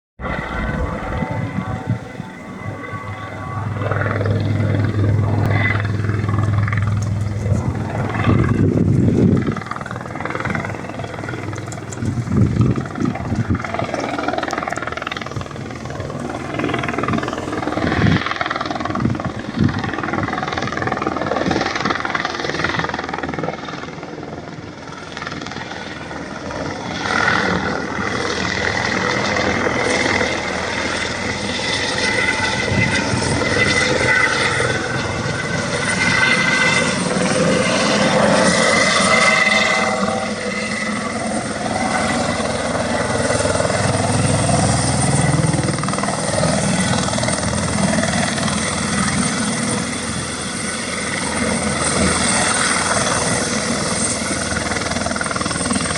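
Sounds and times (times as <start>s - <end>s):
helicopter engine and rotor: 0.2s - 55.9s.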